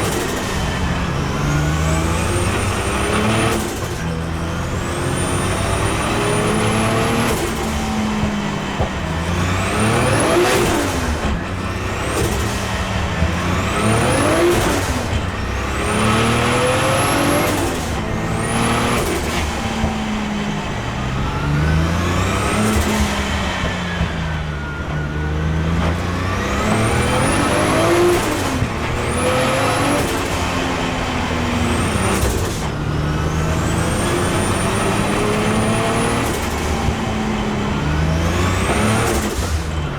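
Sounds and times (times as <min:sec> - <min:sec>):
car engine revving and shifting: 0:00.0 - 0:39.9.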